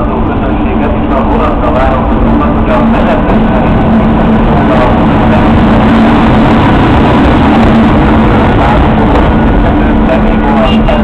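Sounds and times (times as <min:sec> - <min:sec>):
electric locomotive humming: 0:00.0 - 0:11.0.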